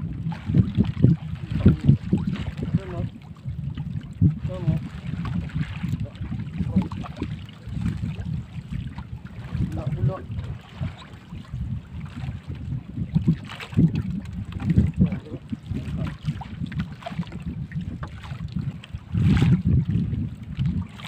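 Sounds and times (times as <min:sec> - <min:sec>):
water sloshing against hull: 0:00.0 - 0:21.0
wind buffeting microphone: 0:00.0 - 0:21.0.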